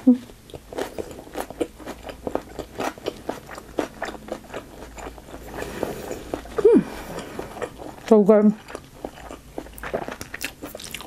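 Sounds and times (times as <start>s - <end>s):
wet mouth chewing: 0.2s - 11.0s.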